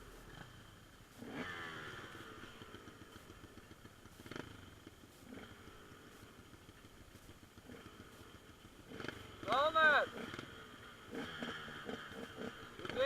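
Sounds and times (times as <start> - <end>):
faint dirt bike engine: 0.0 - 13.0.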